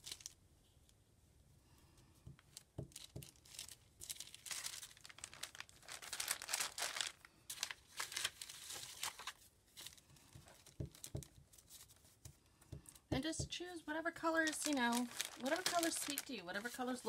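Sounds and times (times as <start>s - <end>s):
paper crinkling and rustling: 0.0s - 0.4s, 2.4s - 13.0s, 14.2s - 17.0s.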